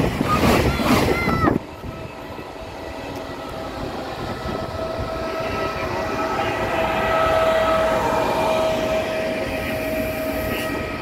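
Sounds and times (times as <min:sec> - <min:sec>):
electric locomotive whine: 0:00.0 - 0:11.0
train wheels rumbling on rails: 0:00.0 - 0:11.0.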